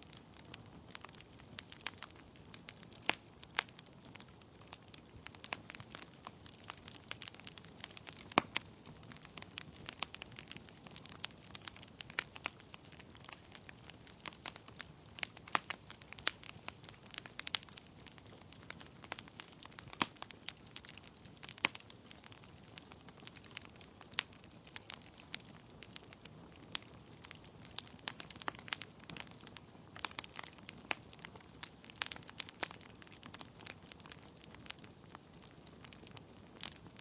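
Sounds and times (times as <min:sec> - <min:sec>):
wood logs crackling in fireplace: 0:00.0 - 0:37.0.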